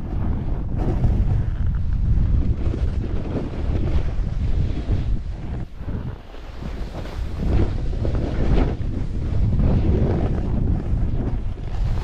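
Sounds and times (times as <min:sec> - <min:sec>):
snowboard scraping over snow: 0:00.0 - 0:12.0
wind buffeting microphone: 0:00.0 - 0:12.0.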